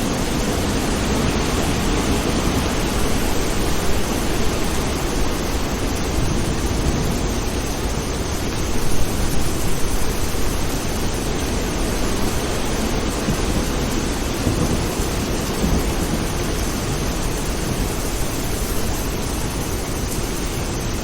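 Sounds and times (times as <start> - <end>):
steady rain hiss: 0.0 - 21.0
distant thunder rumble: 0.1 - 19.6.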